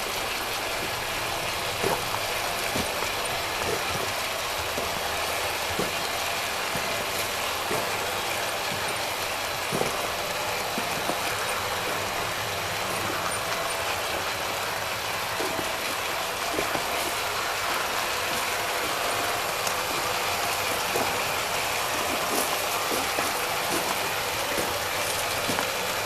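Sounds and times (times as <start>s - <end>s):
model train running on rails: 0.0s - 26.0s.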